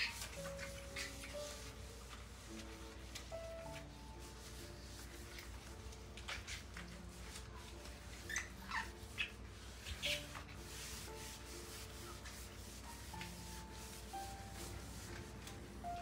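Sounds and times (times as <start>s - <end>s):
gloved hand scrubbing sink: 0.0s - 16.0s
soft background music: 0.0s - 16.0s
squeaky rubbing strokes: 0.0s - 16.0s.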